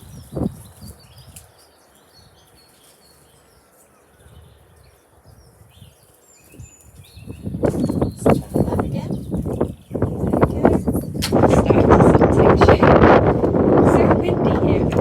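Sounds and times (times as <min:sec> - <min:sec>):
wind rumble on microphone: 0:00.0 - 0:02.4, 0:04.2 - 0:15.0
small birds chirping: 0:00.0 - 0:15.0.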